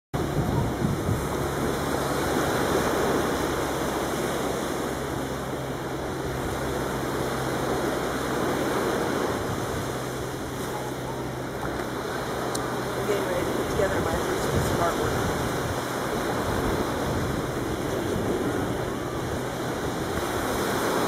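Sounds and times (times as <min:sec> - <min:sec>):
wind: 0:00.1 - 0:21.0
sea waves: 0:00.2 - 0:21.0.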